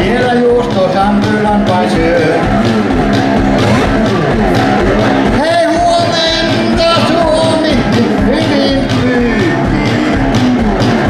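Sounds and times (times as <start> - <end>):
drum beat: 0.0 - 11.0
guitar: 0.0 - 11.0.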